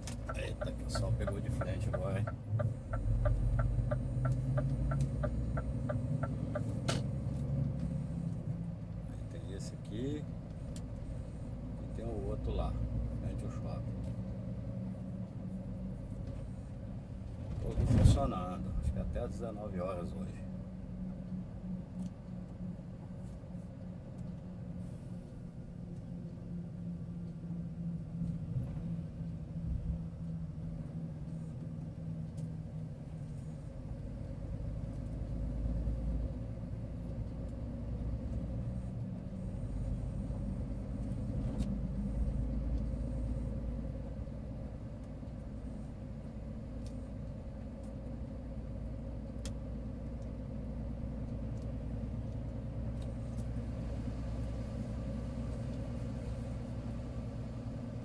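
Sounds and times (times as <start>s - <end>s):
road and tyre noise: 0.0s - 58.0s
truck diesel engine running: 0.0s - 58.0s.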